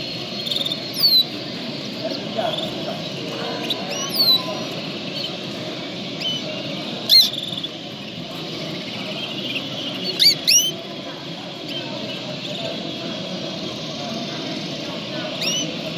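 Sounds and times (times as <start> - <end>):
murmur of indistinct voices: 0.0 - 15.9.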